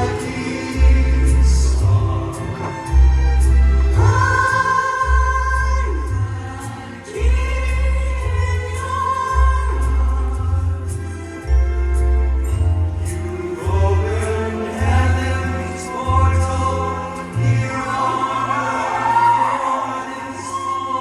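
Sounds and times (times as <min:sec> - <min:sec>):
choir singing long notes: 0:00.0 - 0:10.8, 0:13.0 - 0:21.0
bass line accompaniment: 0:00.0 - 0:21.0.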